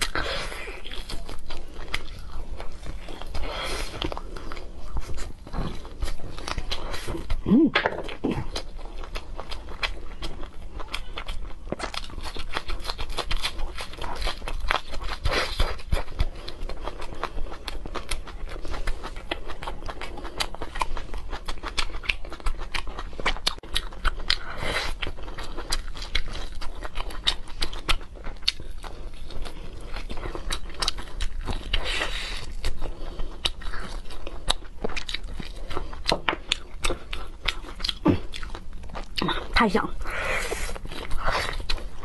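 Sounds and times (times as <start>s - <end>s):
person chewing ribs: 0.0s - 42.0s
person crunching green onion: 0.0s - 42.0s.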